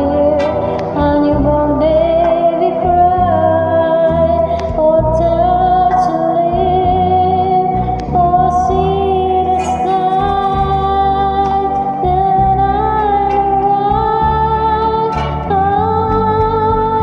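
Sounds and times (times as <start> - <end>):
karaoke backing track: 0.0 - 17.0
woman singing: 0.0 - 17.0.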